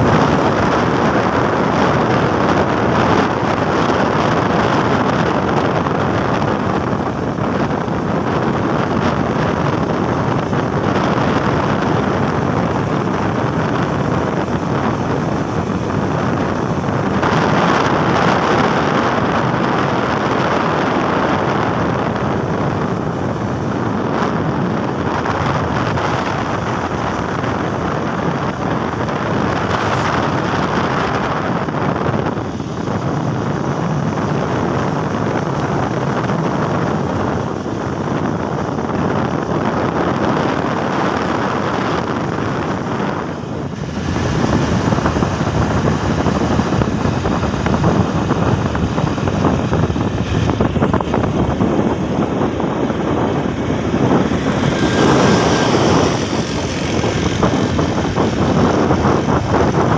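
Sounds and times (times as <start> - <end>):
moving vehicle rumble: 0.0 - 59.9
wind rushing over microphone: 0.0 - 59.9.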